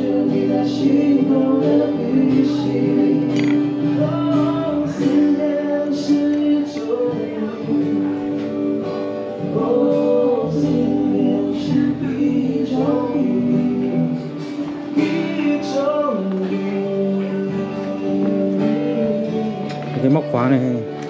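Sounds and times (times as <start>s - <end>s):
guitar chords: 0.0s - 21.0s
person singing: 0.0s - 21.0s.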